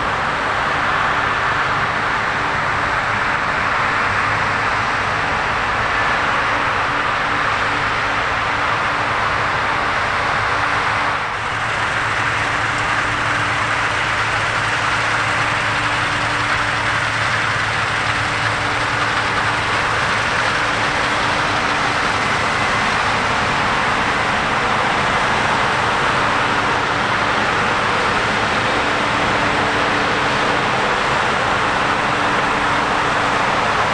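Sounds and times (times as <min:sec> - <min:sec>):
broad rushing noise: 0:00.0 - 0:33.9
combine harvester drone: 0:00.0 - 0:33.9.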